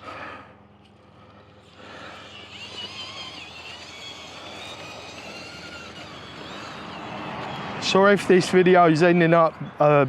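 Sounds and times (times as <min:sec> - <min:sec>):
electric motor and gearbox whining: 0:00.7 - 0:10.0.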